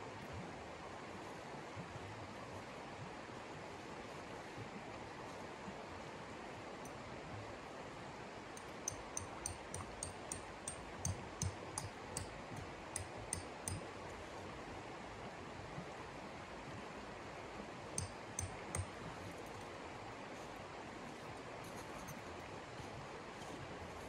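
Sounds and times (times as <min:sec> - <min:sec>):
steady noisy hiss: 0:00.0 - 0:24.0.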